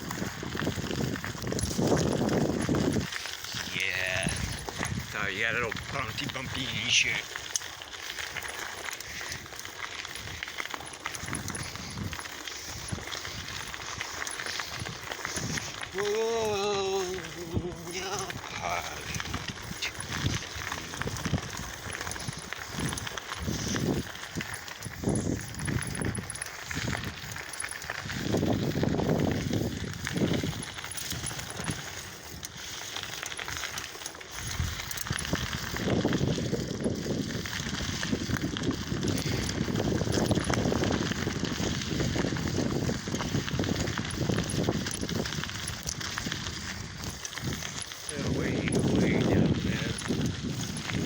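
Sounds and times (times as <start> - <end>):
bicycle rattling and knocking: 0.0 - 51.0
bicycle tyres on rough ground: 0.0 - 51.0.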